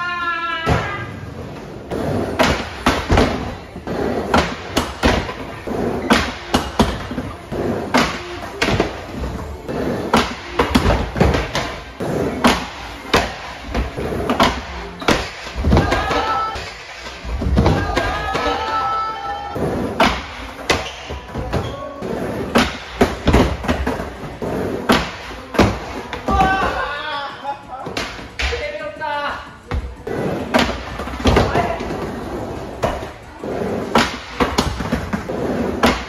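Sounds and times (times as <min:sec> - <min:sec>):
background music: 0:00.0 - 0:36.0.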